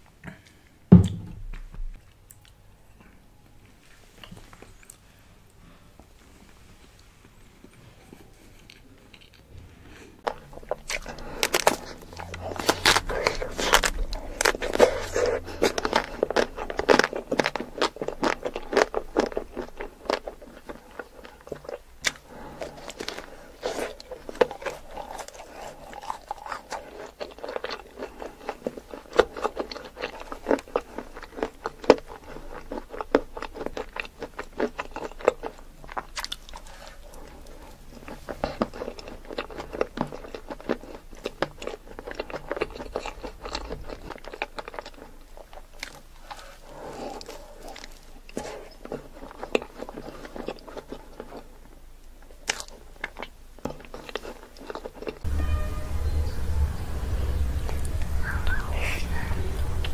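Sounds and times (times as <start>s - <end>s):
chewing: 6.5s - 55.3s.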